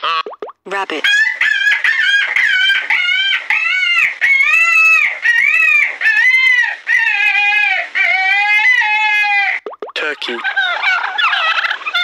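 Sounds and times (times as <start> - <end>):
rabbit squealing: 1.0 - 9.6, 10.2 - 12.0.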